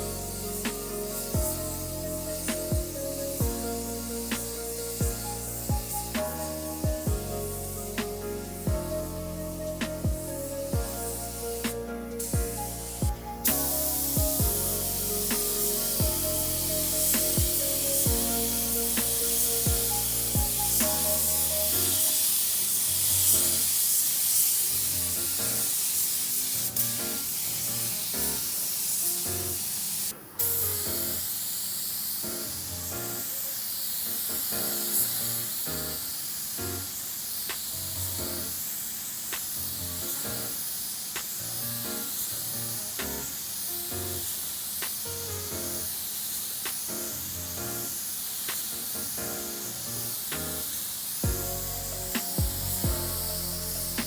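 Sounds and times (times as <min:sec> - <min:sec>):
background music with steady beat: 0:00.0 - 0:25.8, 0:34.2 - 0:54.0
spray gun hissing: 0:00.0 - 0:54.0.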